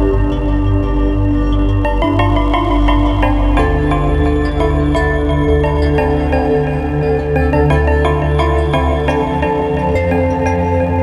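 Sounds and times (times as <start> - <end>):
bell-like notes: 0.0 - 11.0
held chords: 0.0 - 11.0.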